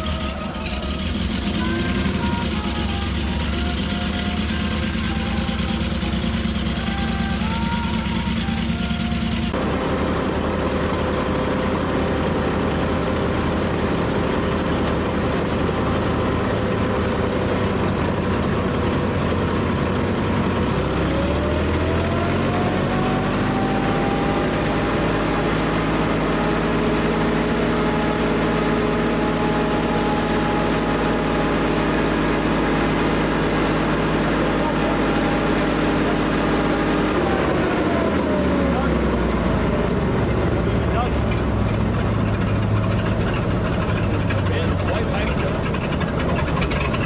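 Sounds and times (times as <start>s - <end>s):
tank engine idling: 0.0s - 47.0s.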